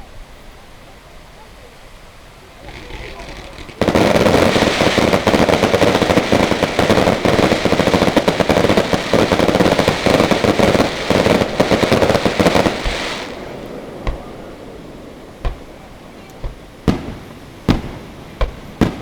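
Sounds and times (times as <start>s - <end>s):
fireworks crackling: 2.4s - 19.0s
firework bang: 2.6s - 19.0s.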